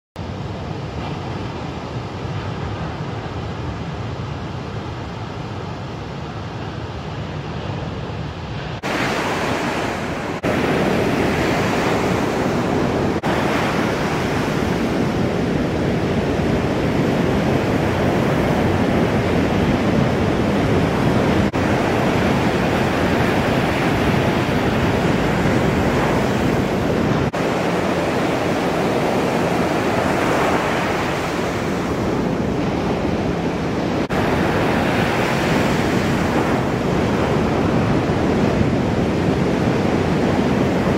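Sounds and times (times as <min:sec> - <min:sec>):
ocean waves breaking: 0:00.2 - 0:40.9
wind on microphone: 0:00.2 - 0:40.9.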